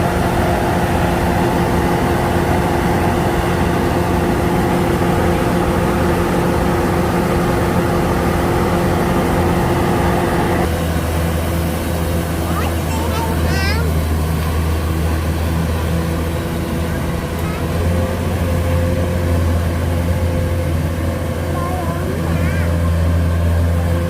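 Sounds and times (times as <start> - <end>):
harvesting machine engine droning: 0.0 - 24.0.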